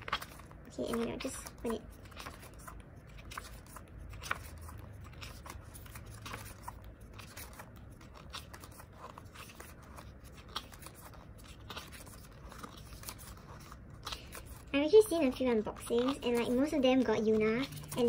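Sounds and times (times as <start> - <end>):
pages snapping over: 0.0 - 14.7
pages turning: 0.0 - 18.0.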